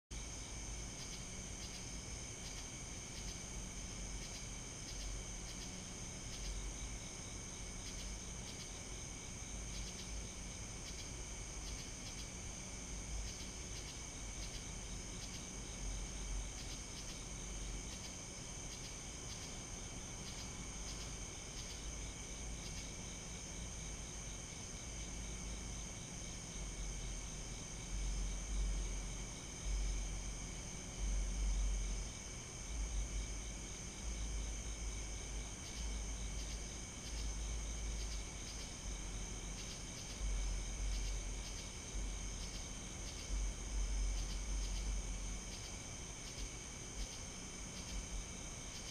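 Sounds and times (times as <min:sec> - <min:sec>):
crickets and insects trilling: 0:00.1 - 0:48.9.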